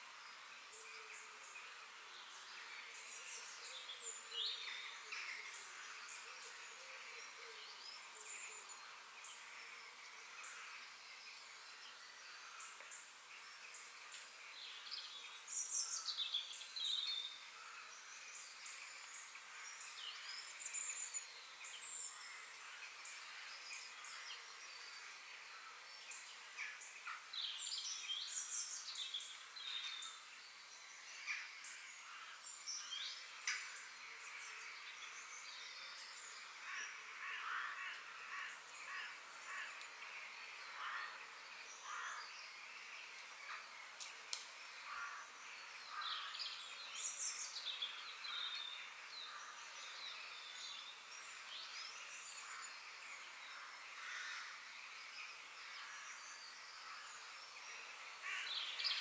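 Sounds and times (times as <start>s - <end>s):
songbirds chirping: 0.0s - 59.0s
steady high background hiss: 0.0s - 59.0s.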